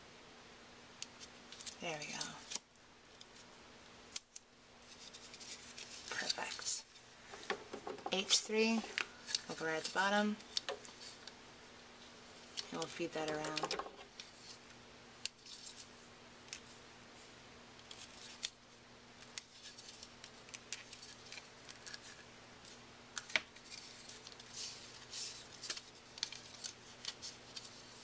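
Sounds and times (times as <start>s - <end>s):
faint steady hum: 0.0s - 28.0s
vinyl skin crinkling and clicking: 1.0s - 3.5s, 4.1s - 6.7s, 7.4s - 11.4s, 12.4s - 16.8s, 17.8s - 18.6s, 19.2s - 28.0s.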